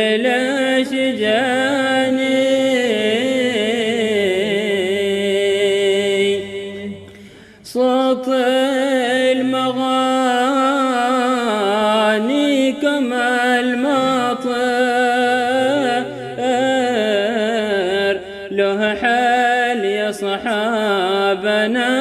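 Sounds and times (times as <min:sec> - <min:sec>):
person singing devotional song: 0:00.0 - 0:22.0.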